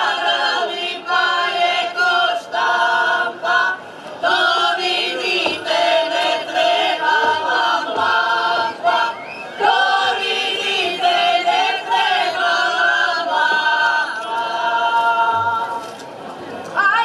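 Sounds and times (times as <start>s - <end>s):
men and women singing together: 0.0s - 15.9s.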